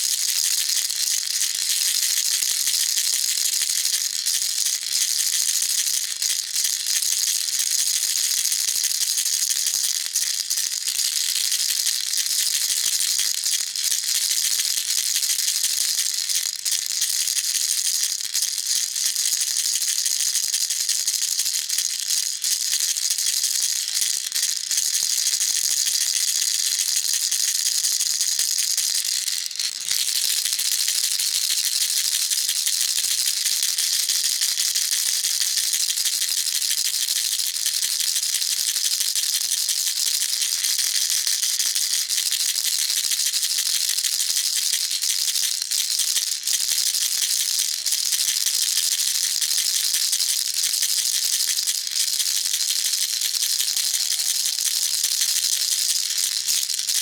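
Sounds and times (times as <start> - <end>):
baby rattle shaking: 0.0 - 57.0.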